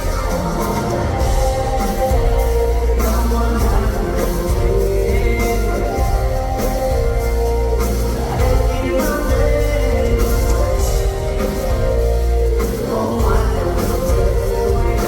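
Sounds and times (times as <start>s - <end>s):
live concert music with heavy bass: 0.0s - 15.0s.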